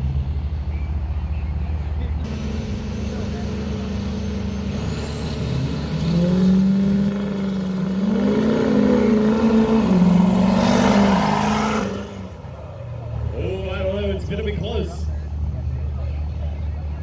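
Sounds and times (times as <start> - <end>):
pickup truck engines at full throttle: 0.0 - 17.0.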